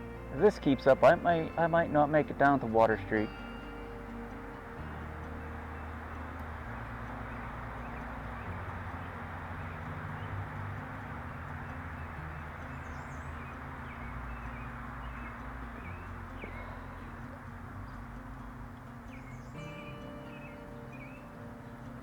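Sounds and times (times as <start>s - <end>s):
bird chirps: 0.0s - 22.0s
river water rushing: 0.0s - 22.0s.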